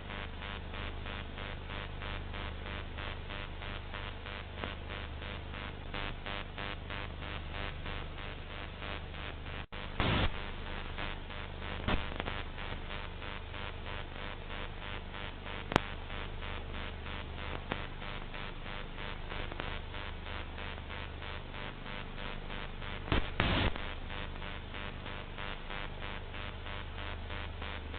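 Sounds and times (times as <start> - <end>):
low mains hum: 0.0 - 27.9
static crackles: 0.0 - 27.9
television static hiss: 0.0 - 27.9.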